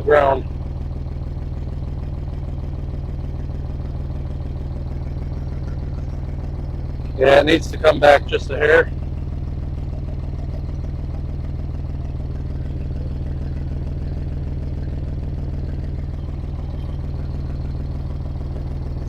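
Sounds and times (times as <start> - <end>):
diesel tractor engine idling: 0.0 - 19.0.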